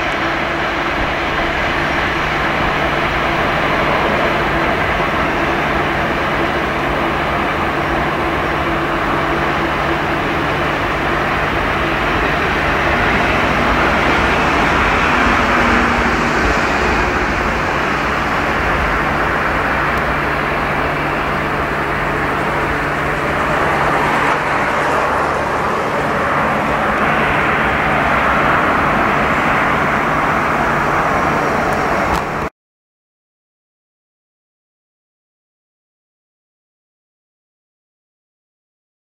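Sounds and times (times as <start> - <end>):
freight train rumbling on rails: 0.0 - 32.5.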